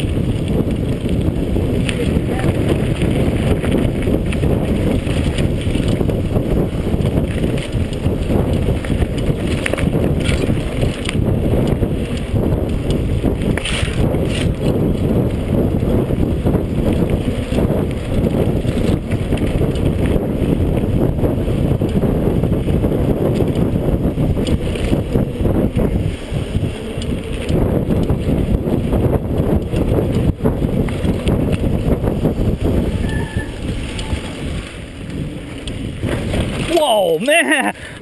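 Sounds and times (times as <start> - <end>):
mountain bike rattling and knocking: 0.0 - 38.0
wind on microphone: 0.0 - 38.0.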